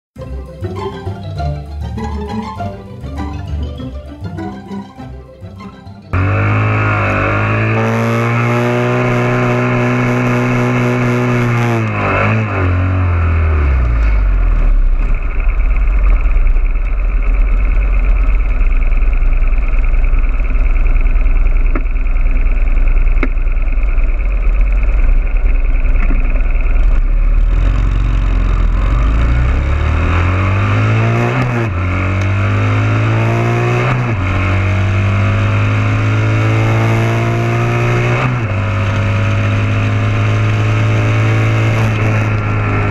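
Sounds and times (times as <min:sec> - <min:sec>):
motorcycle engine: 0:00.2 - 0:42.9.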